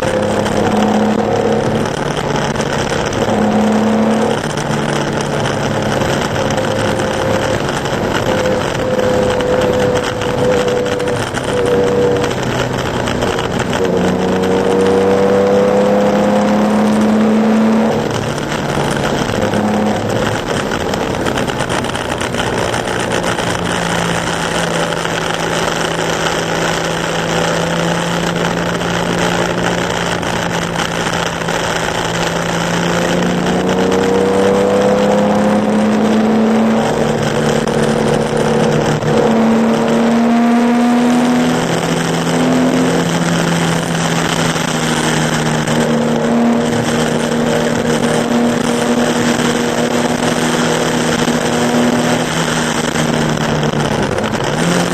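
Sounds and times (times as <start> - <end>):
racing car engine revving: 0.0 - 54.9.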